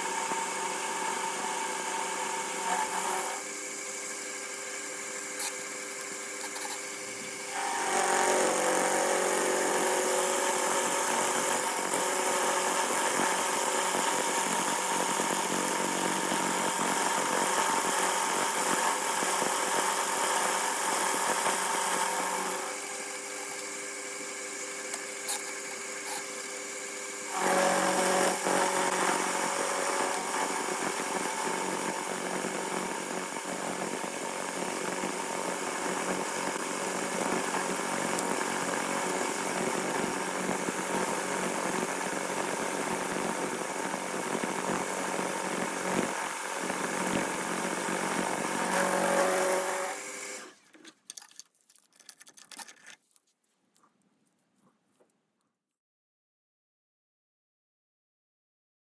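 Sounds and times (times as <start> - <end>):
cutter milling metal: 0.0 - 50.5.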